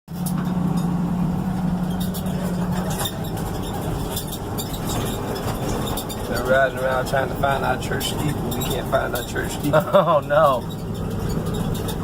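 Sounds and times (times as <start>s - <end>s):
car engine low hum: 0.1s - 12.0s
light clicks and rattles: 0.2s - 12.0s.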